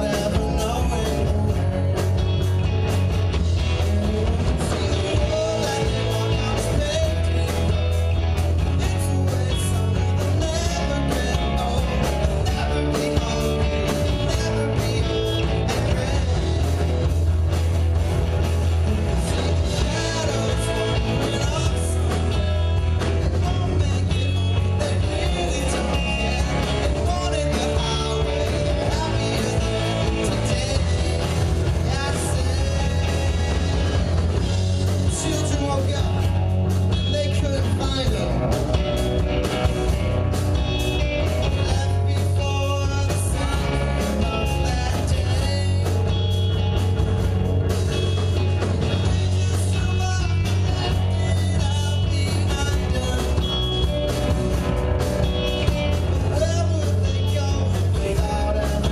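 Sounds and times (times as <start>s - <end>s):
person singing: 0.0s - 2.6s, 3.5s - 17.3s, 18.9s - 39.8s, 41.2s - 46.6s, 47.7s - 54.1s, 56.2s - 58.9s
bass guitar: 0.0s - 58.9s
drums: 0.0s - 58.9s
electric guitar: 0.0s - 58.9s.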